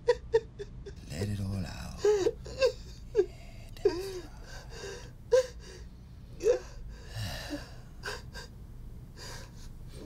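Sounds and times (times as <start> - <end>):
man sobbing: 0.0 - 8.6.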